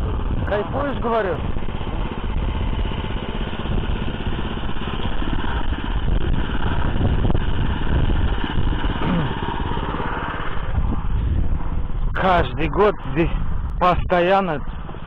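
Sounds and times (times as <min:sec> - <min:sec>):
tractor engine running under load: 0:00.0 - 0:13.8.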